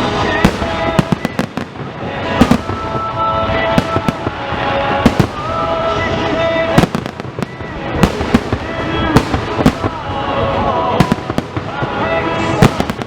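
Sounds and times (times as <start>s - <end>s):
fireworks bangs and cracks: 0.0s - 13.0s
music playing: 0.0s - 13.0s.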